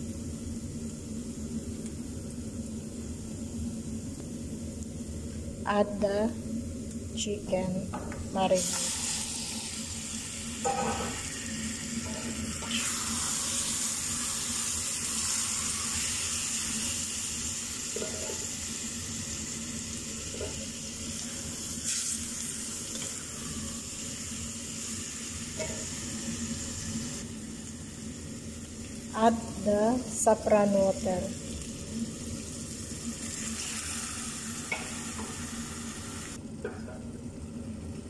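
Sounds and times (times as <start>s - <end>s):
chicken sizzling in a pot: 0.0s - 7.2s, 7.9s - 38.0s.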